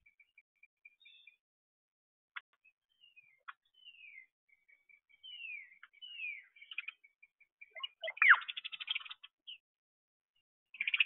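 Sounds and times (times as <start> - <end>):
songbirds calling and singing: 0.0 - 1.6, 2.3 - 11.0.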